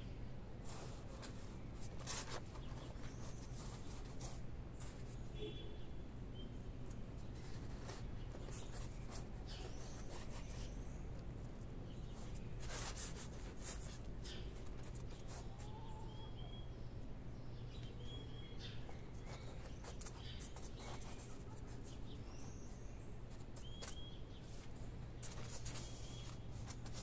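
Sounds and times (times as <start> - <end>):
hands rustling in potting soil: 0.6 - 5.5, 6.8 - 16.6, 17.8 - 27.0.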